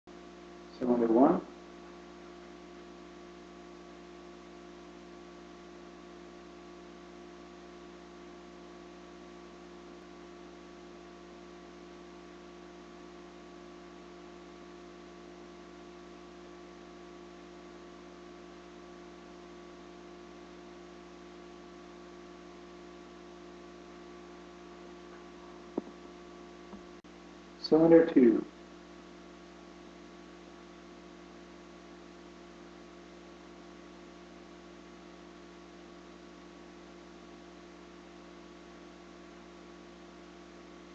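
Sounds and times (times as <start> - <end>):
faint electrical hum: 0.1 - 40.9.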